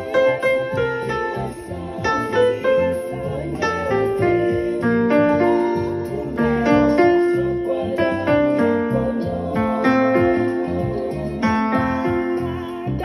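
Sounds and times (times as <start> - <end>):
electronic keyboard melody: 0.0 - 13.0
low bass notes: 0.0 - 13.0.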